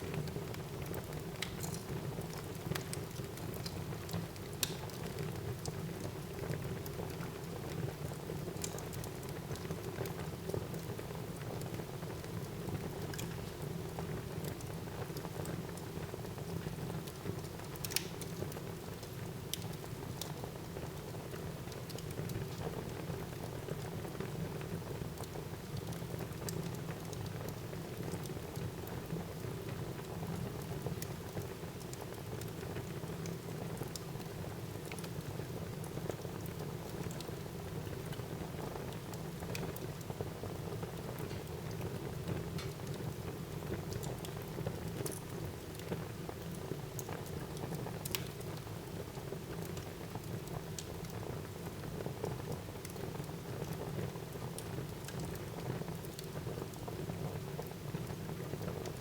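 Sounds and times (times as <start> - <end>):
fire crackles and pops: 0.0 - 59.0.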